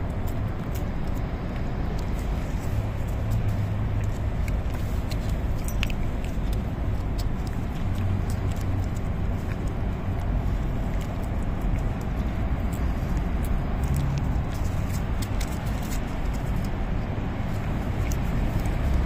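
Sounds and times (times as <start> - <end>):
cat licking: 0.0 - 19.0
low background rumble: 0.0 - 19.0.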